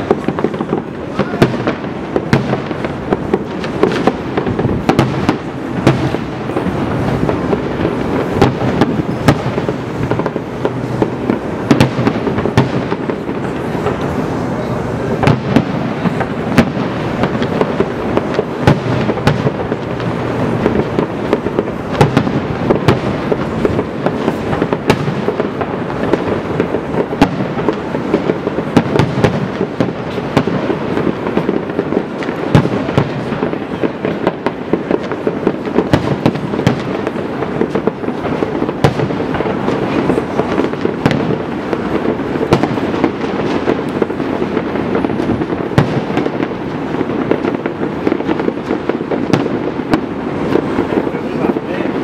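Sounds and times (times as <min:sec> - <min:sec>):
firework shells bursting: 0:00.0 - 0:52.0.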